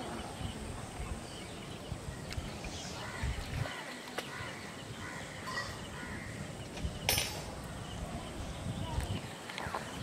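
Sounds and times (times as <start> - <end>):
faint bird calls: 0.0 - 10.0.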